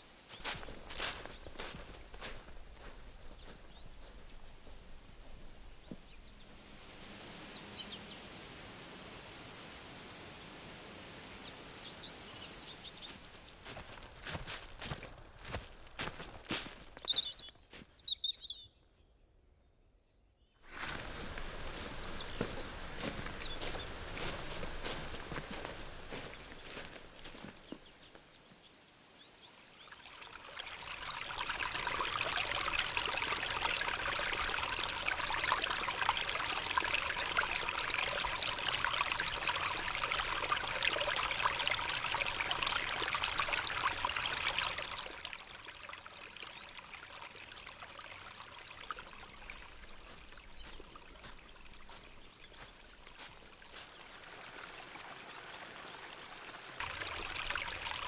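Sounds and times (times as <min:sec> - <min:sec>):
stream running over stones: 0:00.0 - 0:18.5, 0:20.6 - 0:58.0.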